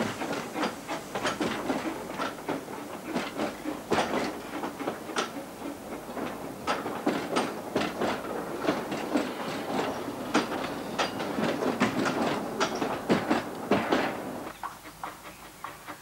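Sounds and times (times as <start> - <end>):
train rolling rumble: 0.0 - 16.0
train wheels clacking over rail joints: 0.0 - 16.0.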